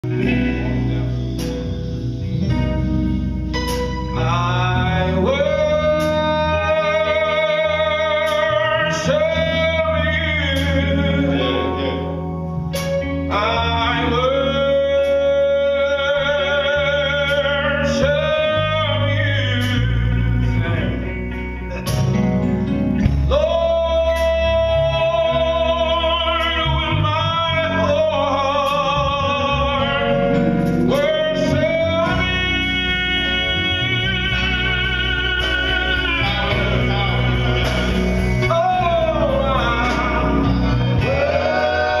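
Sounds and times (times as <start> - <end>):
keyboard and guitar accompaniment: 0.0 - 42.0
male vocal group singing: 4.1 - 12.2, 13.3 - 21.0, 23.3 - 42.0.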